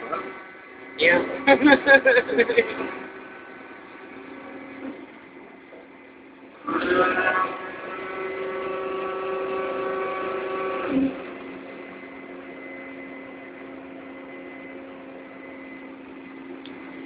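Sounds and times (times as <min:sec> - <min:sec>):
crane machinery humming: 0:00.0 - 0:17.0.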